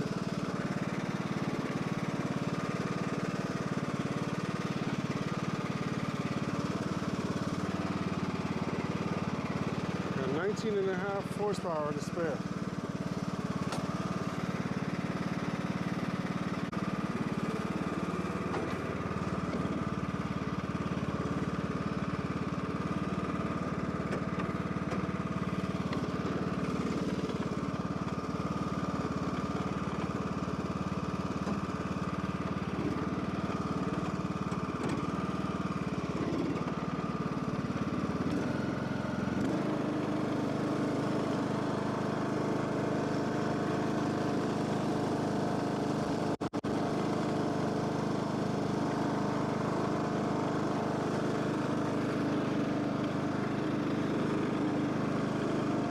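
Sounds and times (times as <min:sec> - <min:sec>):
riding mower engine running: 0:00.0 - 0:55.9.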